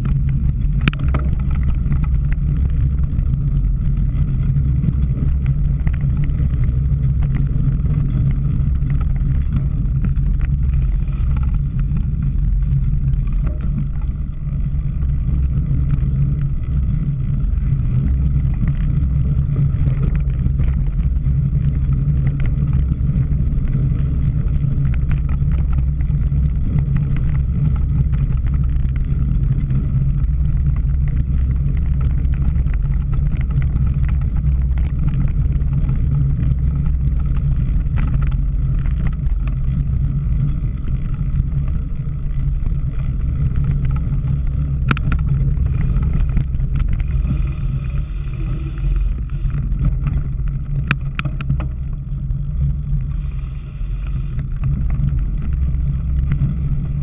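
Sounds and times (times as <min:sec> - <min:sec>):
bike riding noise: 0:00.0 - 0:57.0
wind rumble: 0:00.0 - 0:57.0.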